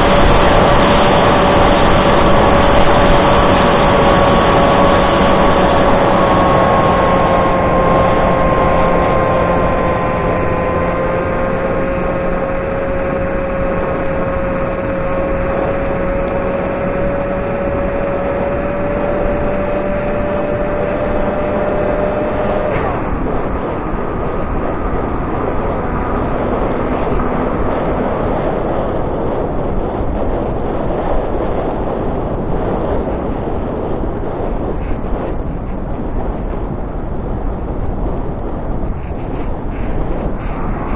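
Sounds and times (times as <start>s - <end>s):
heavy wind rush: 0.0s - 40.9s.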